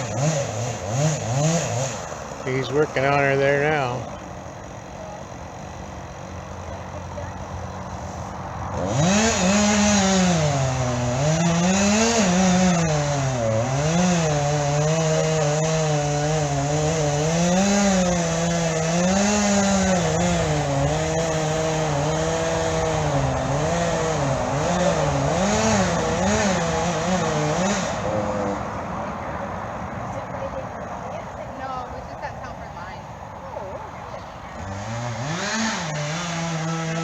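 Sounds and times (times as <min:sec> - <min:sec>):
chainsaw cutting wood: 0:00.0 - 0:28.8, 0:34.5 - 0:37.0.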